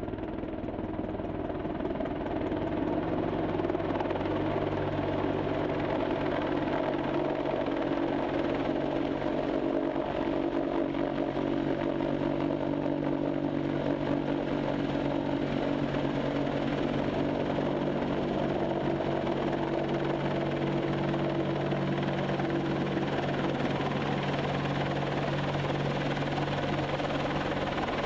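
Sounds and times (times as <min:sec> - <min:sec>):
helicopter engines and rotor: 0:00.0 - 0:28.0.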